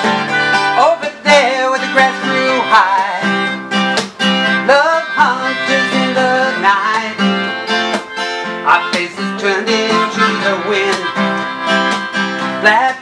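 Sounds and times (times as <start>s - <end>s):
melodica playing melody: 0.0s - 0.8s, 1.7s - 13.0s
acoustic guitar strumming: 0.0s - 13.0s.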